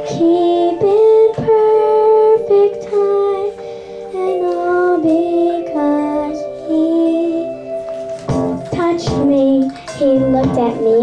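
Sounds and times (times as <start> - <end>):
girl singing into a microphone: 0.0 - 11.0.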